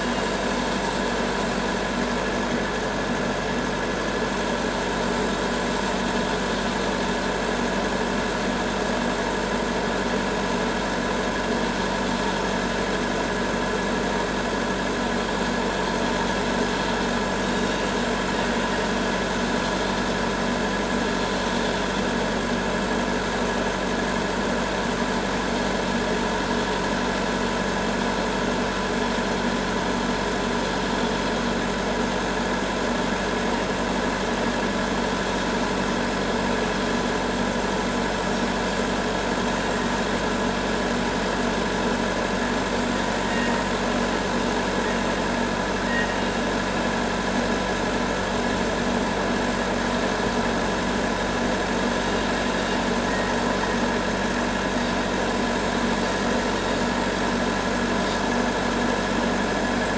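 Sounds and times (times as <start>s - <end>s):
sawmill machine drone: 0.0s - 59.9s.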